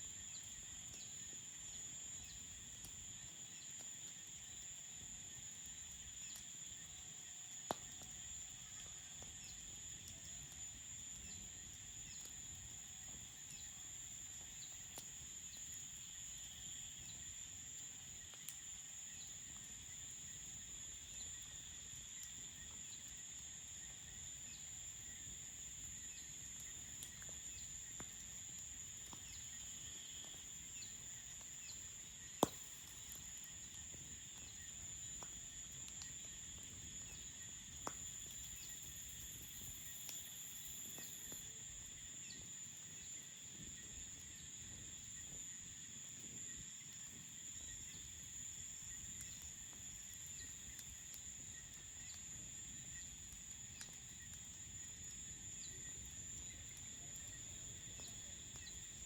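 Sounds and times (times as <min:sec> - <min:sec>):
campfire crackling: 0:00.0 - 0:59.0
crickets chirring: 0:00.0 - 0:59.0.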